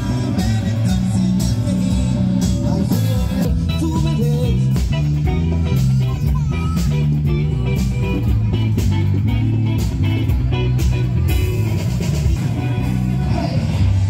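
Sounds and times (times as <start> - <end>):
bass line: 0.0 - 14.0
guitar-led band music: 0.0 - 14.0
steady drum beat: 0.0 - 14.0.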